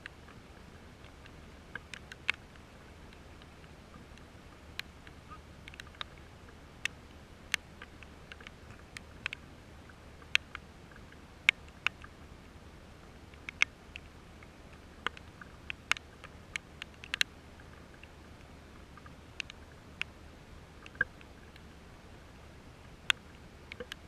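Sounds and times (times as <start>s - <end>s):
faint steady hiss: 0.0s - 24.0s
raindrops ticking close by: 0.0s - 24.0s.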